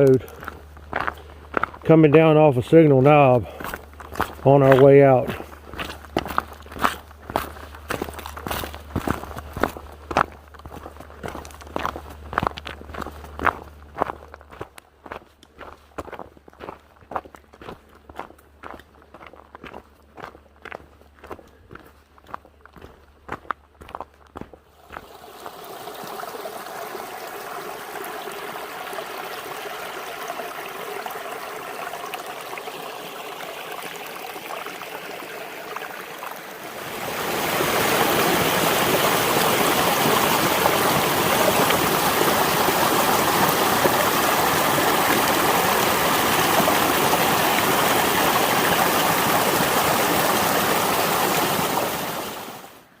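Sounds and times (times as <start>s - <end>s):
creek running over rocks: 0.0s - 21.4s, 24.8s - 52.9s.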